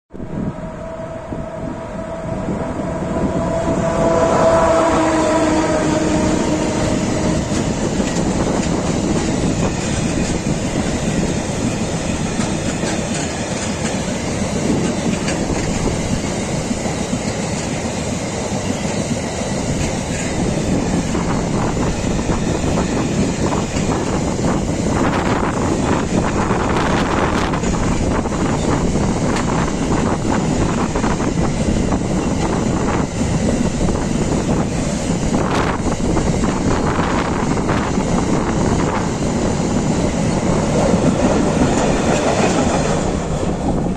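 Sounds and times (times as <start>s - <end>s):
electric locomotive tones: 0.1s - 43.9s
train wheels clacking over rails: 3.5s - 43.9s.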